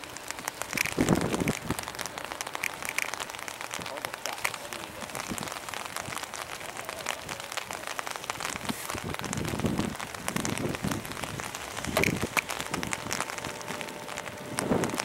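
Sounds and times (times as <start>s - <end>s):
rain pattering on an umbrella: 0.0s - 15.0s.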